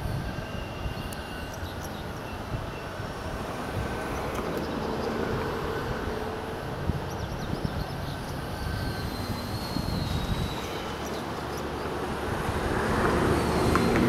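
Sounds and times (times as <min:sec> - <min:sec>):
train rumbling slowly on tracks: 0:00.0 - 0:14.0.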